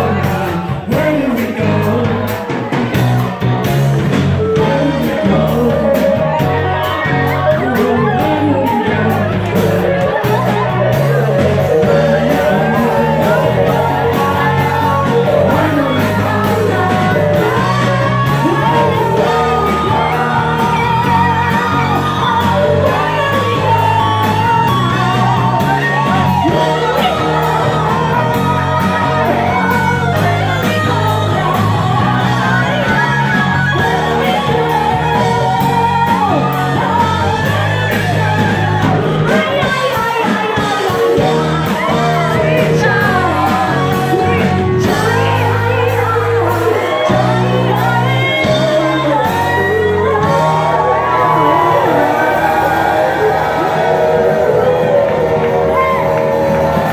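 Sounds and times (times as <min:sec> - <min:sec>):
crowd shouting: 0:00.0 - 0:56.9
electric guitar: 0:00.0 - 0:56.9
person singing: 0:00.0 - 0:56.9
steady bass line: 0:00.0 - 0:56.9.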